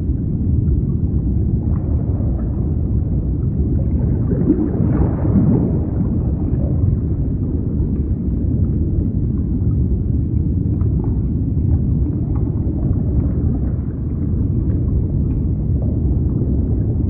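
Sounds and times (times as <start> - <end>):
deep underwater rumble: 0.0 - 17.0.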